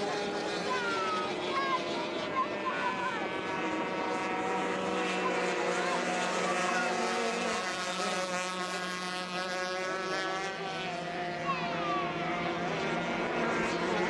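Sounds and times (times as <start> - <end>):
racing boat engines high-pitched: 0.0 - 14.0.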